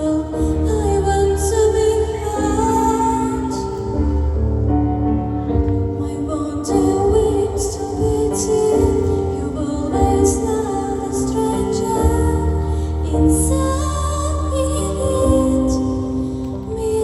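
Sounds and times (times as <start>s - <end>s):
woman singing: 0.0s - 4.6s, 5.7s - 17.0s
instrumental accompaniment: 0.0s - 17.0s.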